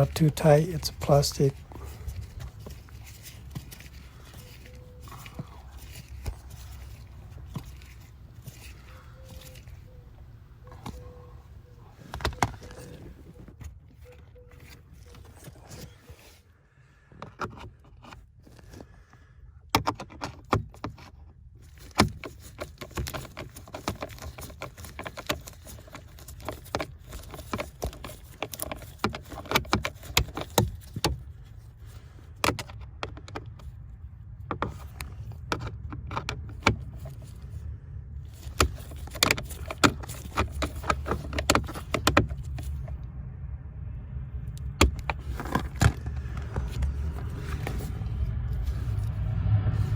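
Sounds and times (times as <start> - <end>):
clicks and knocks of parts: 0.0 - 11.2, 11.9 - 16.4, 17.1 - 37.6, 38.2 - 43.0, 44.5 - 49.2
low steady rumble: 0.0 - 17.1, 23.4 - 49.9.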